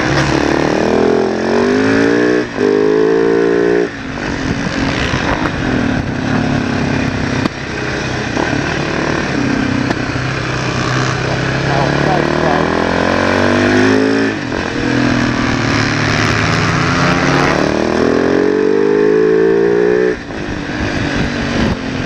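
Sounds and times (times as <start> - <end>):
wind noise: 0.0 - 11.7, 13.1 - 22.0
motorcycle engine revving: 0.0 - 22.0.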